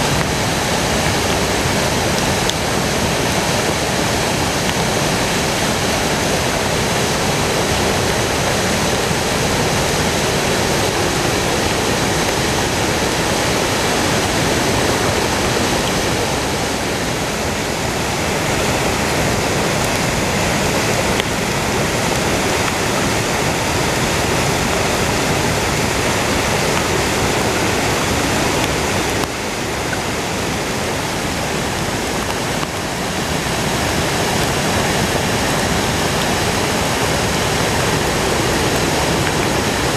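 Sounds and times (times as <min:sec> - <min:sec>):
creek rushing over rocks: 0:00.0 - 0:39.9.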